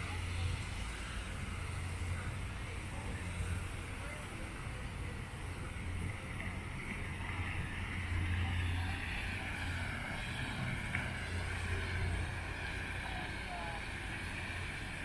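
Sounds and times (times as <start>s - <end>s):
fountain water splashing: 0.0s - 15.0s
steady low hum: 0.0s - 15.0s.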